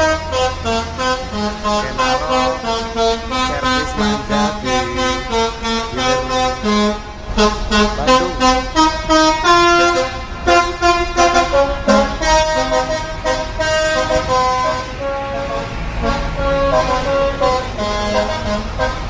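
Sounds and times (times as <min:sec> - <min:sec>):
multi-tone bus horn melody: 0:00.0 - 0:19.0.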